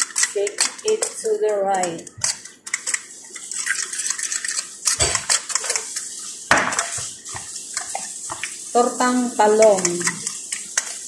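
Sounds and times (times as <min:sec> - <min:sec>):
fork whisking eggs in bowl: 0:00.0 - 0:11.0.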